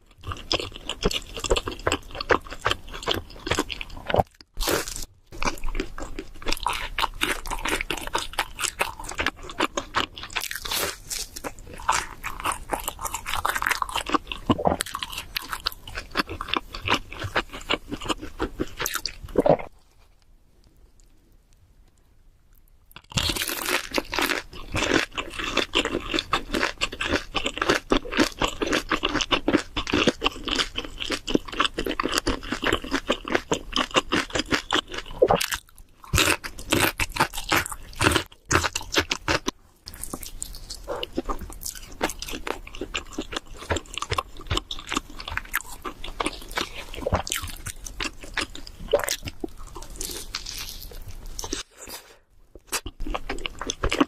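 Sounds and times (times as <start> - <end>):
person chewing crunchy pizza: 0.0 - 20.2, 22.9 - 54.0.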